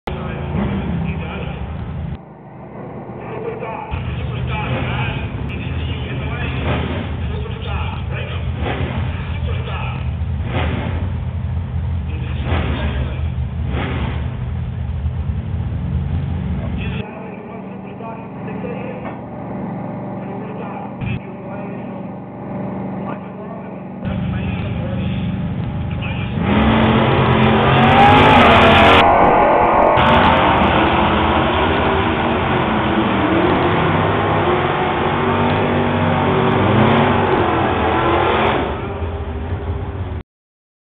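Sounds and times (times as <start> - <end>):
race car engines idling: 0.1 - 29.0, 30.0 - 38.1, 38.7 - 40.2.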